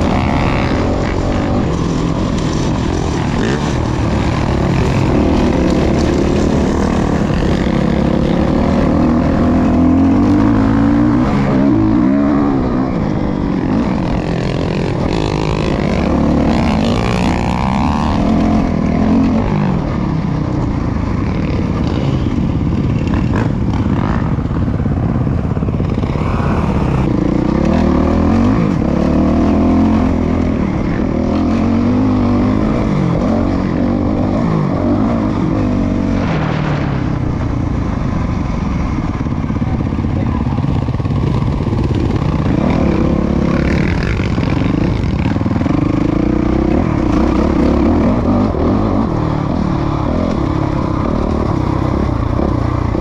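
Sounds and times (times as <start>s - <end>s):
dirt bike engine revving: 0.0s - 20.2s, 20.8s - 39.7s, 40.6s - 53.0s.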